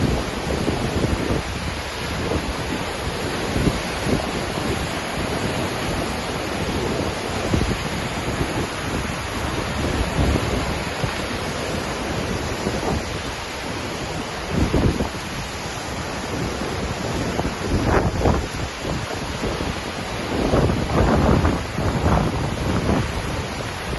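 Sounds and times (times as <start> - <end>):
waterfall rushing: 0.0 - 23.9
wind buffeting microphone: 0.0 - 23.9.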